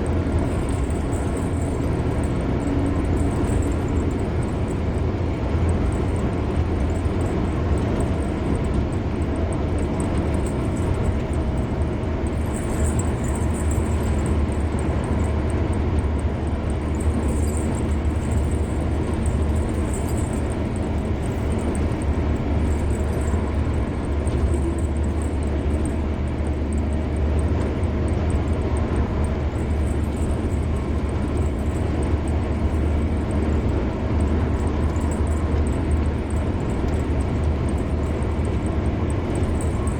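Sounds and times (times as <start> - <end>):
car road noise at speed: 0.0 - 39.9.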